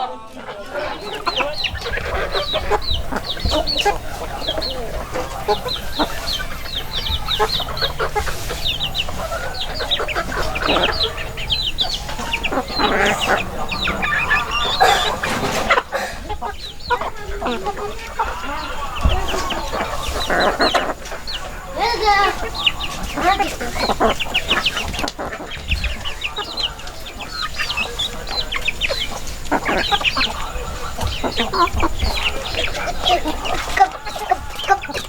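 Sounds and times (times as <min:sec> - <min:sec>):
chickens clucking: 0:00.0 - 0:35.0
high-pitched chicken calls: 0:00.0 - 0:35.0.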